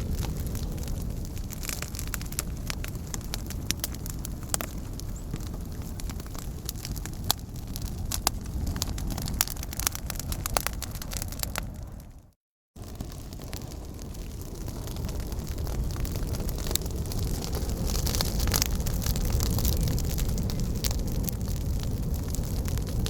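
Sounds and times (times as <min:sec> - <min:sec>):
burning wood crackling: 0:00.0 - 0:23.0.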